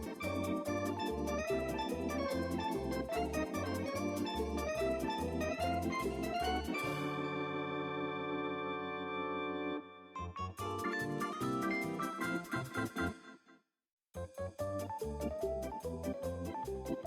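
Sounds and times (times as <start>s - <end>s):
organ-like keyboard music: 0.0s - 13.4s, 14.2s - 17.0s.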